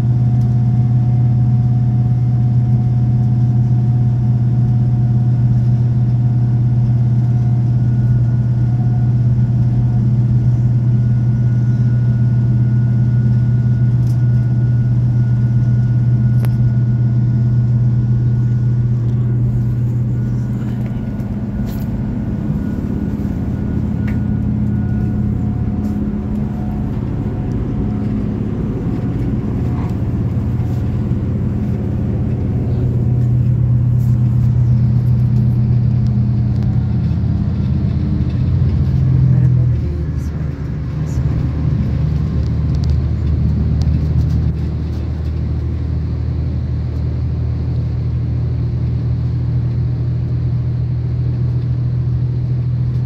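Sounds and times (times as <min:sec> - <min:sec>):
diesel train engine hum: 0:00.0 - 0:53.0
wheels rumbling on track: 0:00.0 - 0:53.0.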